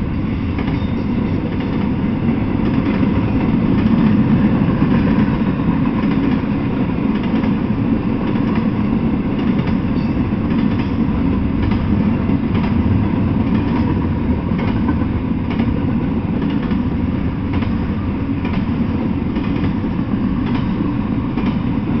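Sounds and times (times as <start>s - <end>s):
freight train wheels rumbling on rail: 0.0s - 22.0s
train wheel clicks: 0.3s - 22.0s.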